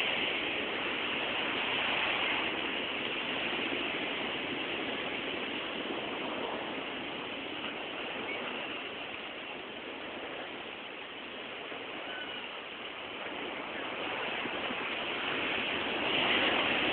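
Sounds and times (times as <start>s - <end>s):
surf washing: 0.0s - 16.9s.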